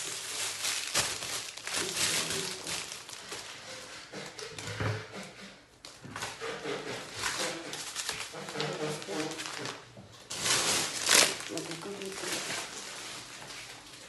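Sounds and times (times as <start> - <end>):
rustling and rubbing: 0.0 - 4.4, 5.5 - 14.0.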